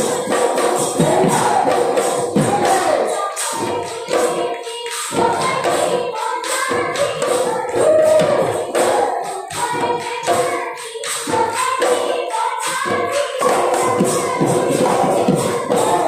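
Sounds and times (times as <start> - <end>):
dhol drums: 0.0 - 16.0
group of voices singing: 0.0 - 16.0.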